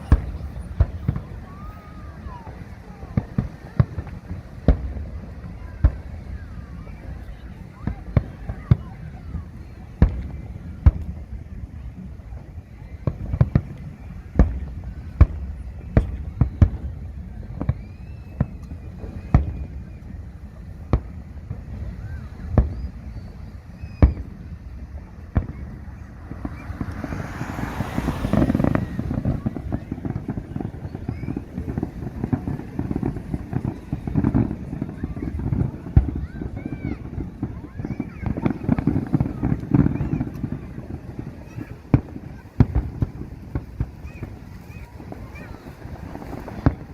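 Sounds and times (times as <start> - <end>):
firework bangs: 0.0 - 46.9
firework hissing crackle: 0.0 - 46.9
rapid firework pops: 0.0 - 46.9.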